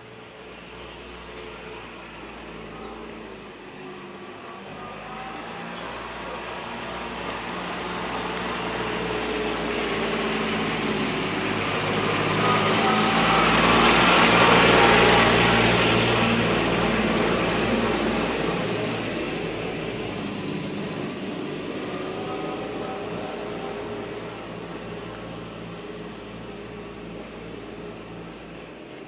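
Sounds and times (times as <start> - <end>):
vehicle engine approaching: 0.0 - 29.0.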